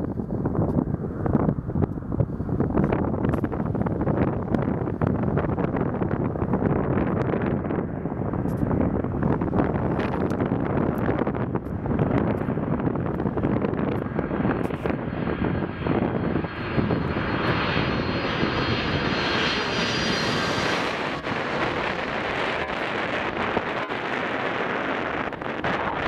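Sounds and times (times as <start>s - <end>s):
jet engines roaring with whine: 0.0s - 26.0s
wind buffeting microphone: 0.0s - 26.0s.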